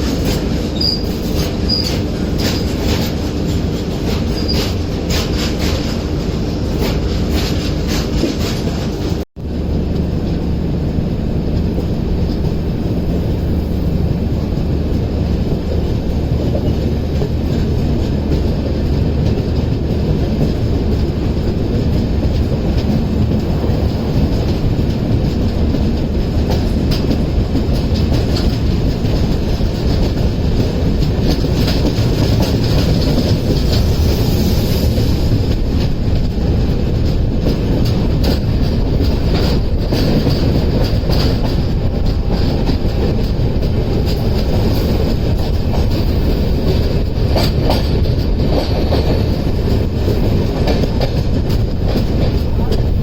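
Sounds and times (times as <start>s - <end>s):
wheels clicking over rail joints: 0.0s - 9.2s, 14.0s - 34.2s, 35.2s - 53.0s
train rumbling: 0.0s - 53.0s.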